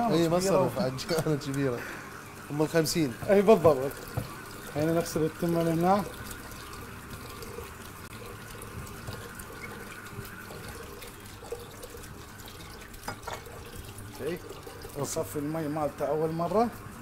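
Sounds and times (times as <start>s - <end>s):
tap water running into pot: 0.0s - 17.0s.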